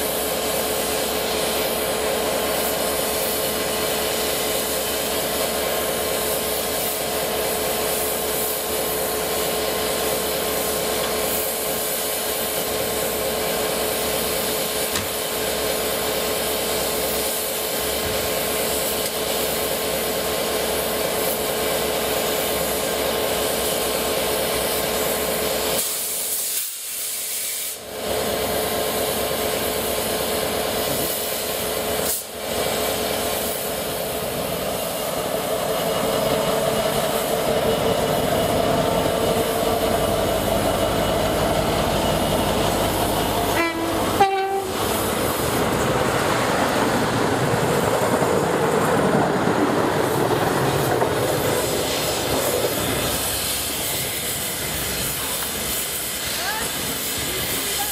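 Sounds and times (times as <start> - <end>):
steam hissing: 0.0 - 57.9.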